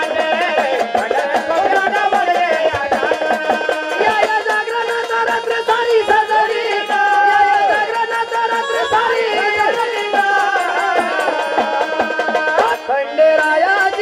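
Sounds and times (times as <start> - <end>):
fast drum beat: 0.0 - 14.0.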